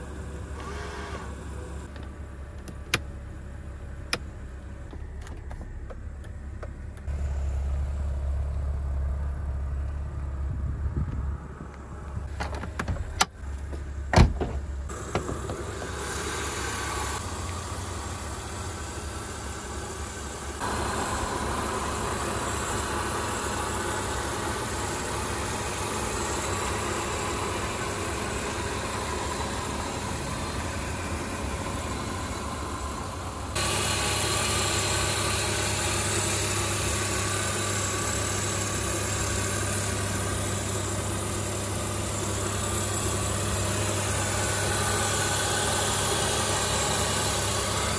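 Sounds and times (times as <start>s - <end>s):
car engine idling: 1.3s - 47.9s.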